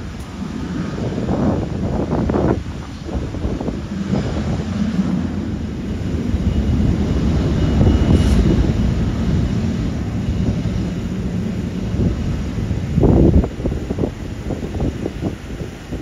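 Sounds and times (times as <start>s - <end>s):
faint high whine: 0.0s - 16.0s
jet engines rumbling: 0.0s - 16.0s.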